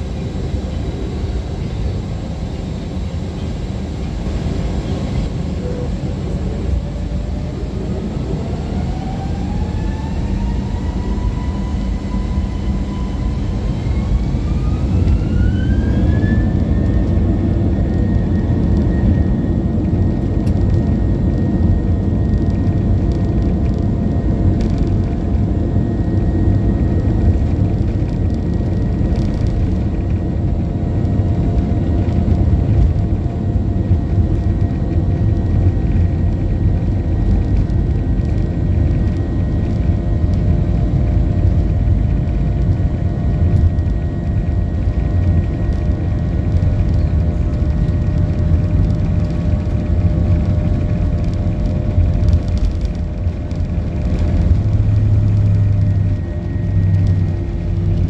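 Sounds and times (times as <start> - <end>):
jet engines spooling up: 0.0 - 58.0.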